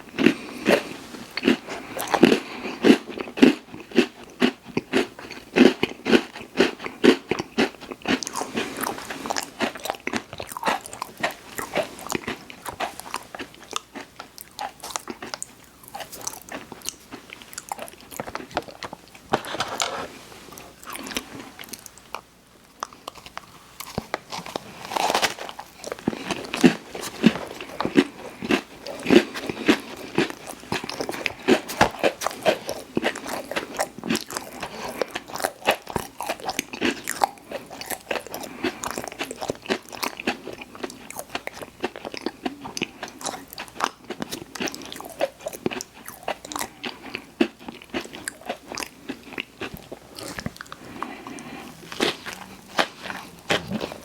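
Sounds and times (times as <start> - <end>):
crunching and chewing snacks: 0.0 - 54.0.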